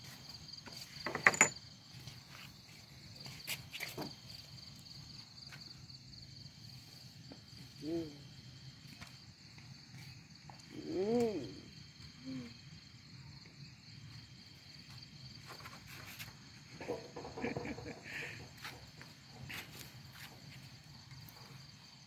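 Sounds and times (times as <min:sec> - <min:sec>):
night insects trilling: 0:00.0 - 0:22.0.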